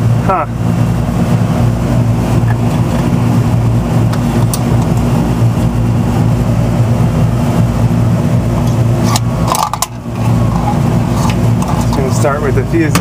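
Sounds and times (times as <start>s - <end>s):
machinery electrical hum: 0.0s - 13.0s.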